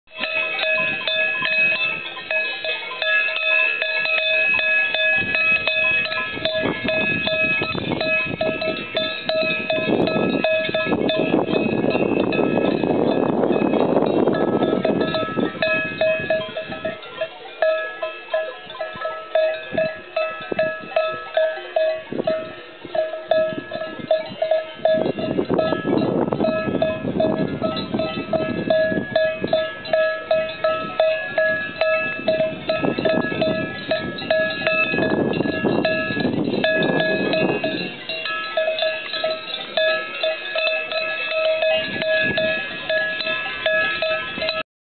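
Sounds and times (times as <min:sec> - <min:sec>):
cowbells clanking: 0:00.1 - 0:44.6.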